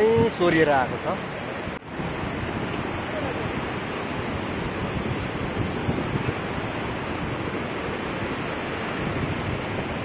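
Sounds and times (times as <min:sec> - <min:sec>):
river water roaring: 0:00.0 - 0:10.0.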